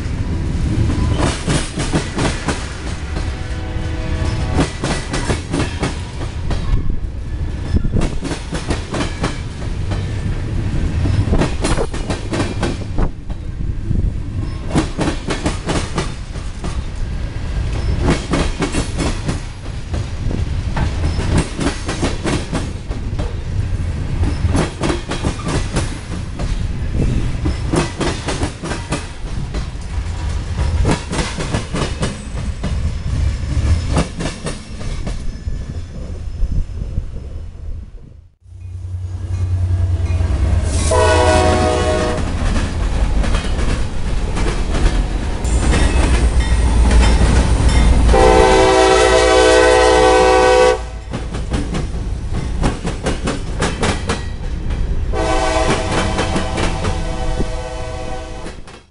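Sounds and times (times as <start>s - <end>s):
freight train rumble: 0.0s - 58.9s.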